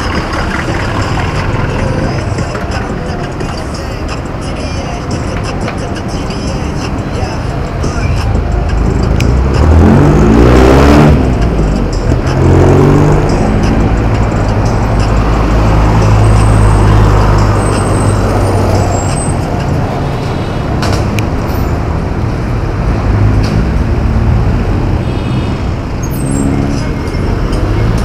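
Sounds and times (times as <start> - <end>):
heavy vehicle engine running: 0.0 - 28.0
road traffic noise: 0.0 - 28.0.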